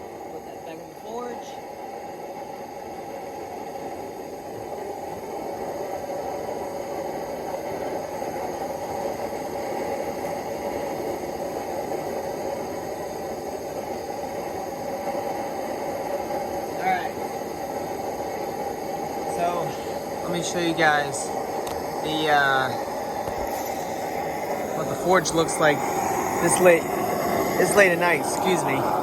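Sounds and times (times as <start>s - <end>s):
forge burning: 0.0s - 29.0s.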